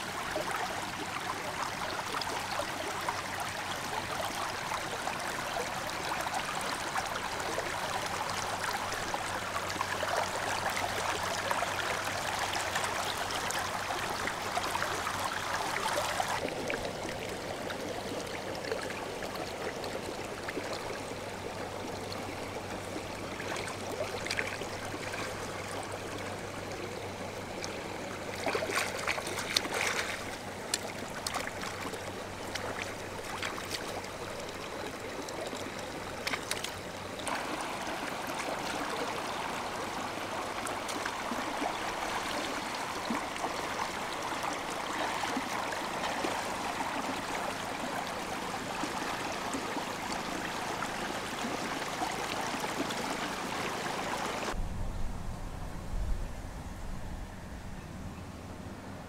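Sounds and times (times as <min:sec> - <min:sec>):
stream flowing over stones: 0:00.0 - 0:54.6.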